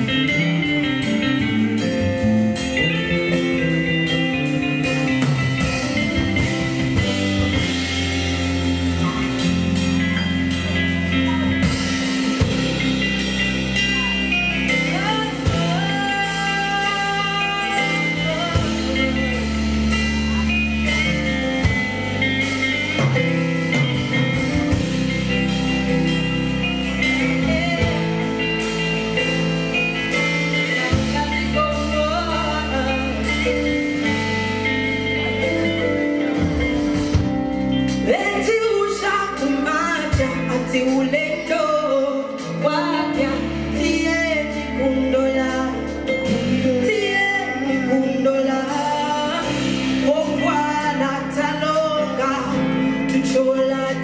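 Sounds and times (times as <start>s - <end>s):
person singing: 0.0s - 54.0s
soul band playing: 0.0s - 54.0s.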